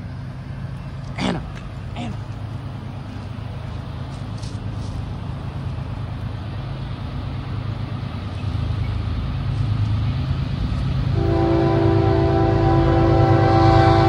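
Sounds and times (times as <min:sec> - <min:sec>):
freight train engine rumble: 0:00.0 - 0:14.0.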